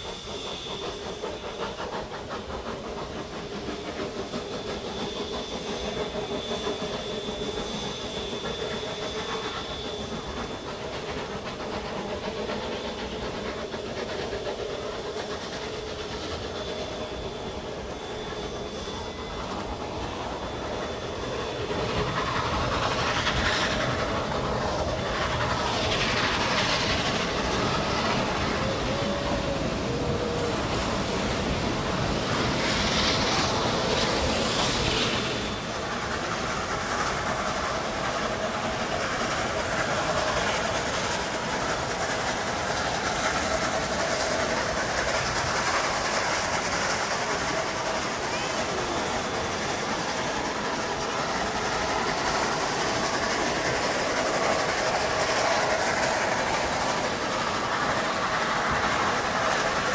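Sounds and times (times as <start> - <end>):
steam hiss: 0.0 - 59.9
train wheels clacking on rail: 0.0 - 59.9.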